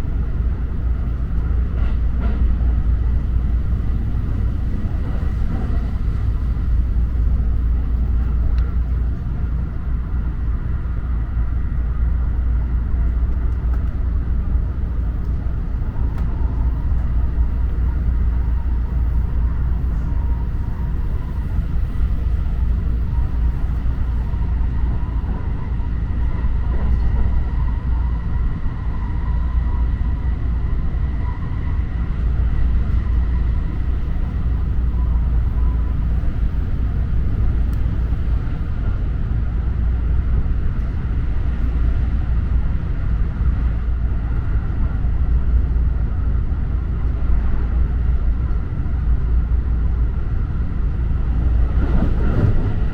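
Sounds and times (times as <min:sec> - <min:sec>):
train rumble inside carriage: 0:00.0 - 0:52.9.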